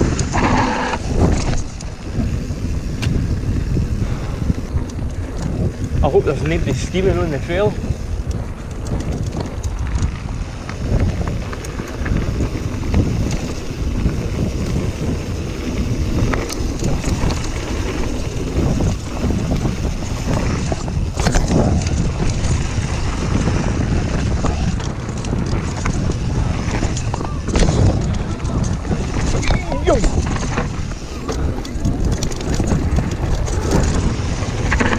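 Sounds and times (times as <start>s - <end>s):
bike rattling and knocking: 0.0s - 34.9s
bike tyre rumble on dirt: 0.0s - 34.9s
wind buffeting microphone: 0.0s - 34.9s.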